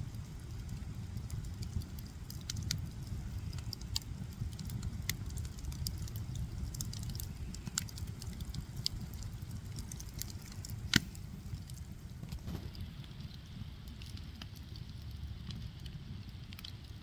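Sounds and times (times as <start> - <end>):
low steady rumble: 0.0 - 17.0
wood fire crackling and popping: 0.0 - 17.0.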